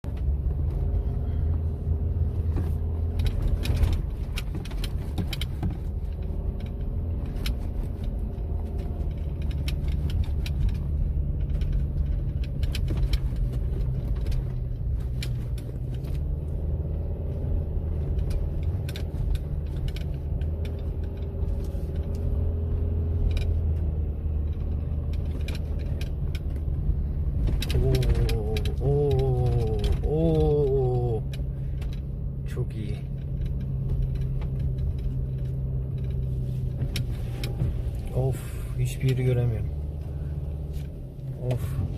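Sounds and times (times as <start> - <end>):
car engine driving through snow: 0.0 - 41.9
sharp clicks and knocks: 2.4 - 41.9.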